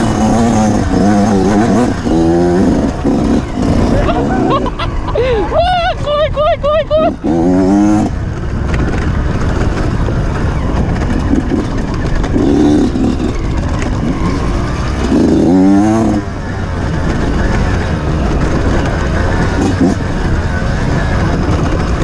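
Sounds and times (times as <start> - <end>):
motorcycle engine revving: 0.0 - 5.5, 6.9 - 22.0
wind noise: 0.0 - 22.0.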